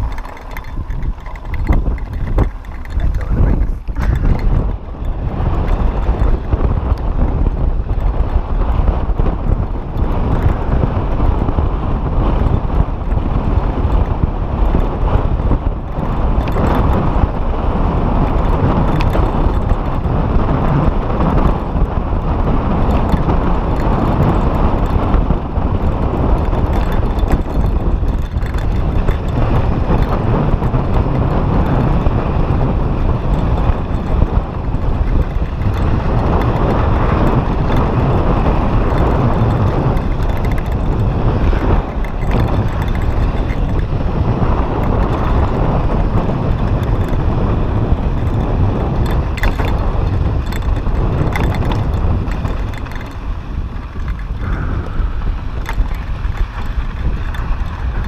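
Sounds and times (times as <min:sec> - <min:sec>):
bike rattles: 0:00.0 - 0:58.0
wind buffeting microphone: 0:00.0 - 0:58.0.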